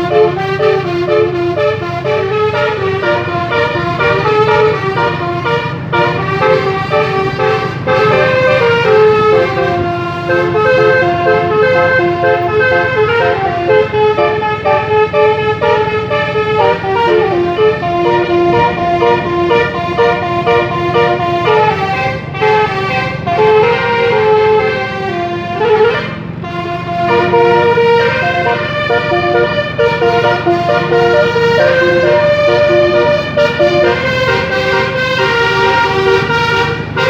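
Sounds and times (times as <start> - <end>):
bus engine running: 0.0 - 37.0
multi-tone bus horn melody: 0.0 - 37.0.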